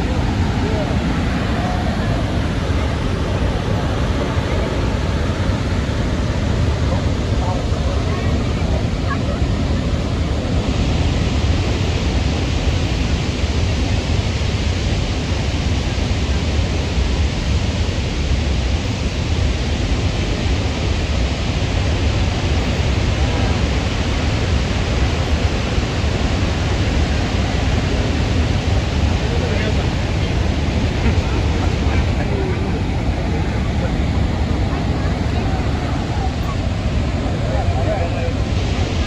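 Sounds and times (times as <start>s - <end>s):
waterfall roaring: 0.0s - 39.0s.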